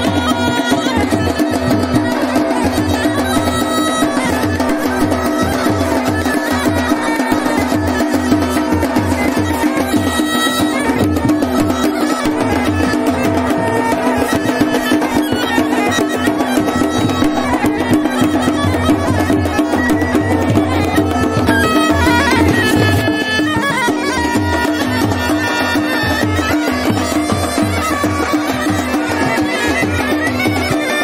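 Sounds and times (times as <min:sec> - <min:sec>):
bagpipe playing over drone: 0:00.0 - 0:31.0
drum beating: 0:00.0 - 0:31.0.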